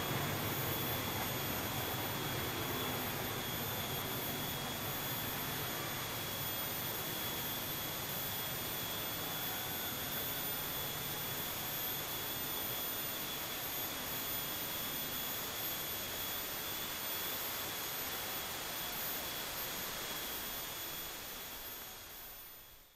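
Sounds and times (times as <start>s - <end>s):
thin high whine: 0.0s - 22.9s.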